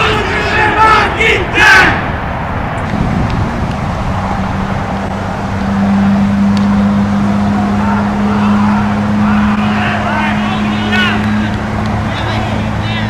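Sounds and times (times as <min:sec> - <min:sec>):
constant rushing noise: 0:00.0 - 0:13.0
low motor hum: 0:02.2 - 0:13.0.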